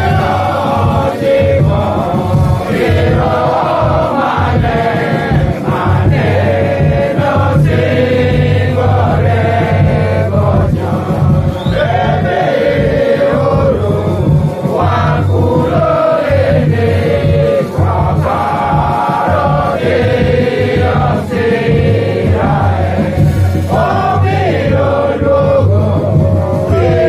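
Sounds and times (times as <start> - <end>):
group singing a hymn: 0.0 - 27.0.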